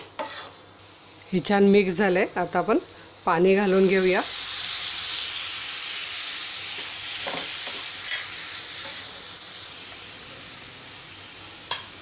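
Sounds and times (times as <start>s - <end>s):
water sizzling in hot pan: 0.0s - 12.0s.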